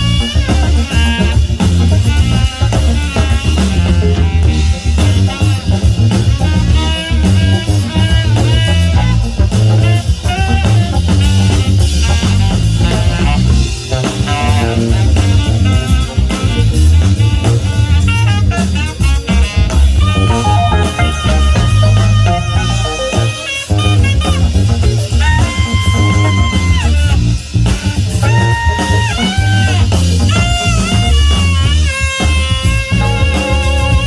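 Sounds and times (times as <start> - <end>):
bent guitar notes: 0.0 - 34.0
live band playing: 0.0 - 34.0.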